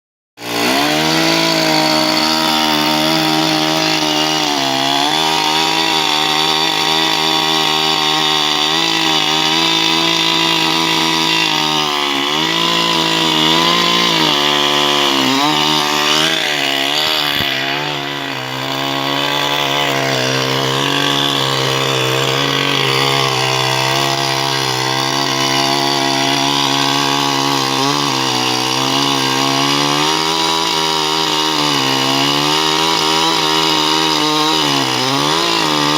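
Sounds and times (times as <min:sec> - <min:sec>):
chainsaw cutting wood: 0:00.4 - 0:35.9.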